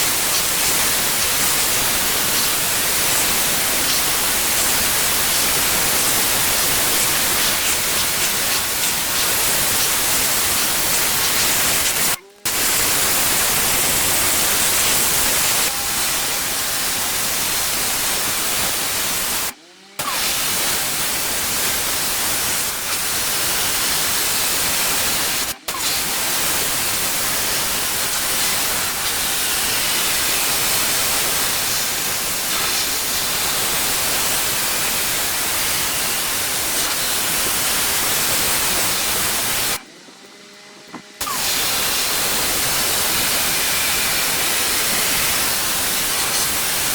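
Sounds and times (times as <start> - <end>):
pressure washer spraying paving: 0.0 - 39.8, 41.2 - 46.9.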